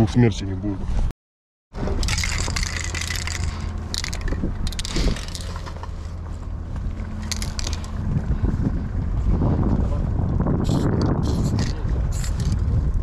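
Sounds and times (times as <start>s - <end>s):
low rumble: 1.8s - 13.0s.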